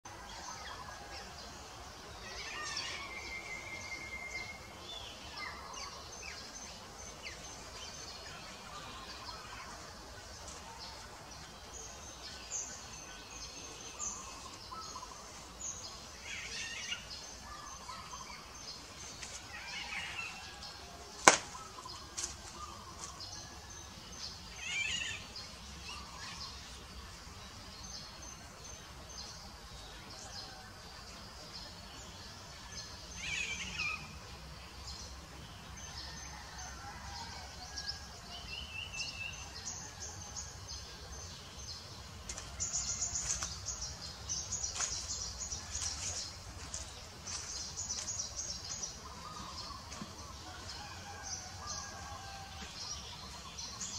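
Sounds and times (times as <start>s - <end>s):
small birds chirping: 0.1s - 37.1s, 37.8s - 53.9s
low ambient noise: 0.1s - 53.9s.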